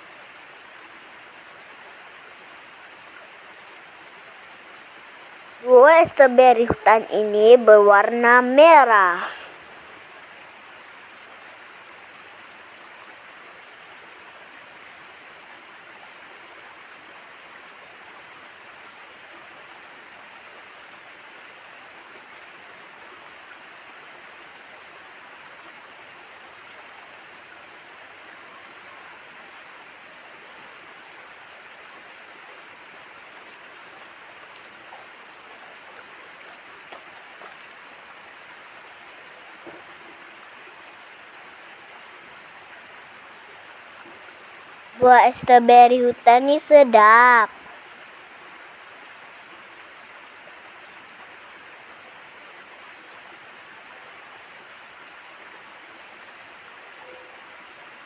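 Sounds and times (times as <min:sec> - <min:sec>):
outdoor background hiss: 0:00.0 - 0:58.0.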